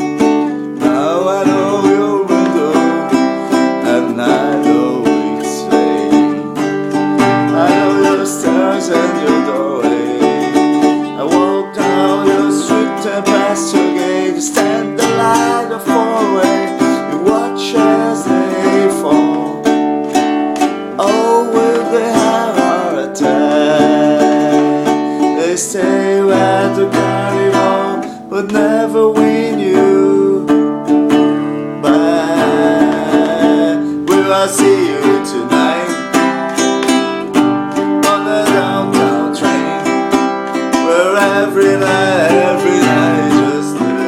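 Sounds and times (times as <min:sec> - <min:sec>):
plucked string chords: 0:00.0 - 0:44.0.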